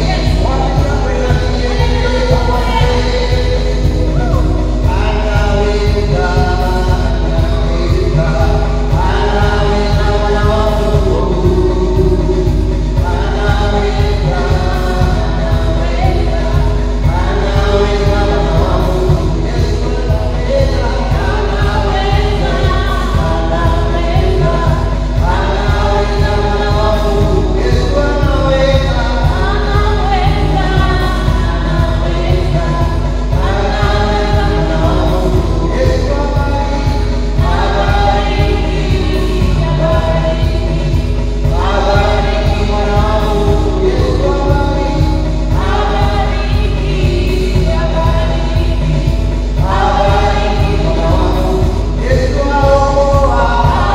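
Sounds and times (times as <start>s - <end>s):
group singing gospel song: 0.0s - 53.9s
instrumental backing with fast beat: 0.0s - 53.9s.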